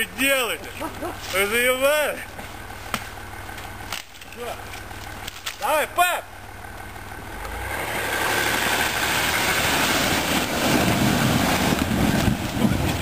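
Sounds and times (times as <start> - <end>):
engine working hard: 0.1 - 13.0.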